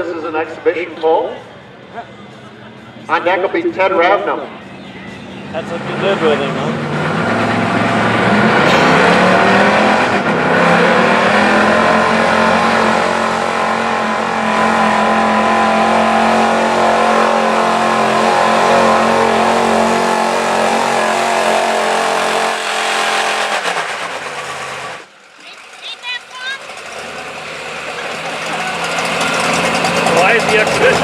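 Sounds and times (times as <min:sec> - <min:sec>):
truck engine revving under load: 0:04.4 - 0:25.8, 0:26.5 - 0:31.0.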